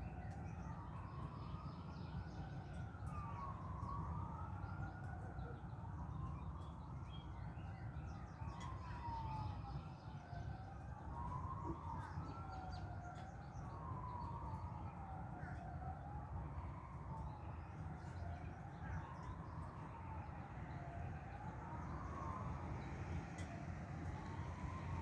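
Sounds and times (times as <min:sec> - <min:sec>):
faint fire engine siren wailing: 0:00.0 - 0:25.0.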